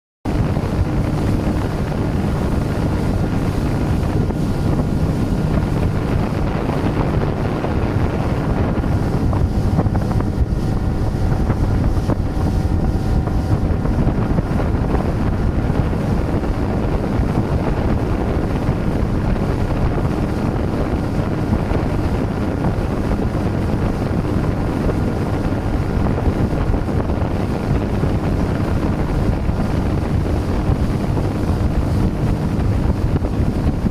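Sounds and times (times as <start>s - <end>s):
boat engine running: 0.3s - 33.9s
wind buffeting microphone: 0.3s - 33.9s.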